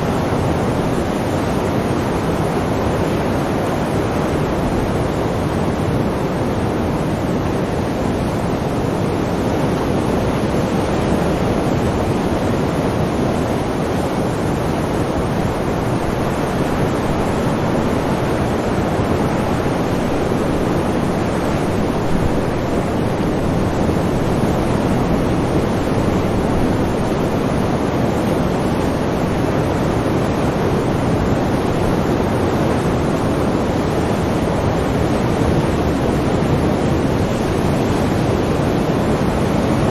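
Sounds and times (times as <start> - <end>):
waves rushing: 0.0 - 39.9.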